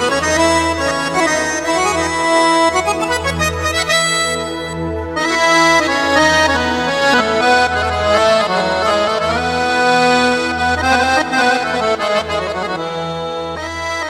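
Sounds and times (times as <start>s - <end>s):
keyboard accordion melody: 0.0s - 14.0s.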